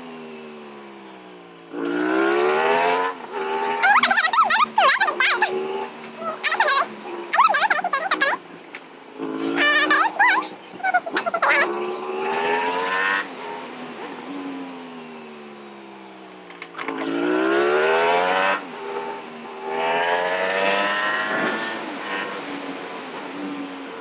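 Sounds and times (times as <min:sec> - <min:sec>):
motorcycle engine accelerating: 0:00.0 - 0:07.4, 0:09.1 - 0:24.0.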